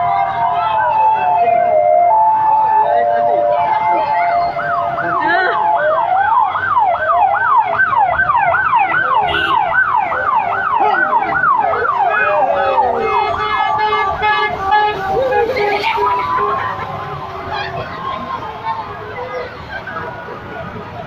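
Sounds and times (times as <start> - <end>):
fire engine siren yelping: 0.0 - 21.0
steady siren tones: 0.0 - 21.0.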